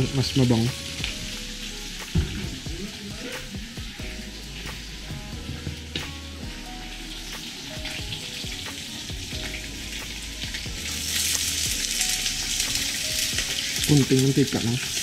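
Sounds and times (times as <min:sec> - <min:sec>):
hot oil sizzling: 0:00.0 - 0:15.0
onion sauteing in oil: 0:00.0 - 0:15.0.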